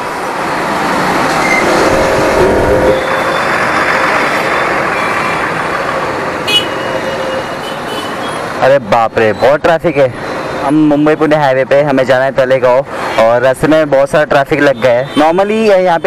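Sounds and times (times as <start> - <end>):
surrounding vehicle engines: 0.0 - 16.0
wind and road noise: 0.0 - 16.0.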